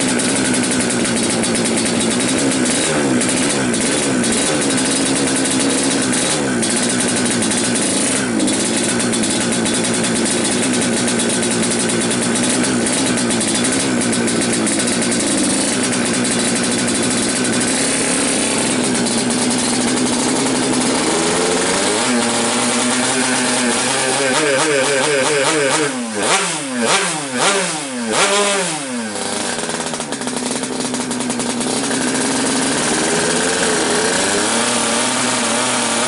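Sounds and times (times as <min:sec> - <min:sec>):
two-stroke motorcycle engine running: 0:00.0 - 0:36.0.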